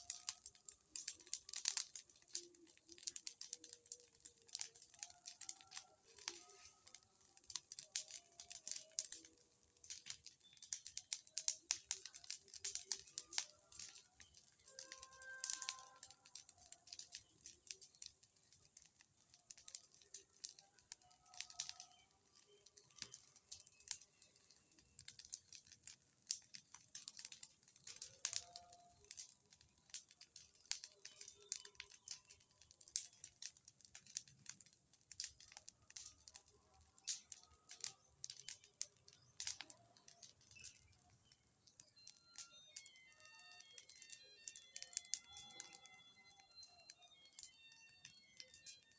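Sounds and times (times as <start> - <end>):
bonfire crackling: 0.0 - 48.9.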